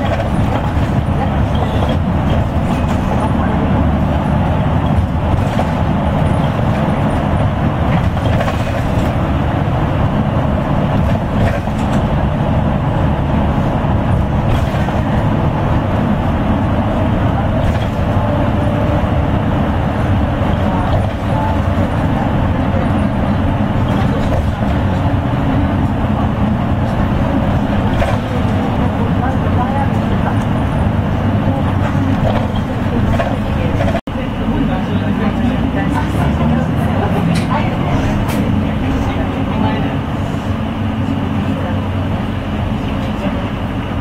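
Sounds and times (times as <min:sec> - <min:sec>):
bus engine hum: 0:00.0 - 0:44.0
road noise: 0:00.0 - 0:44.0.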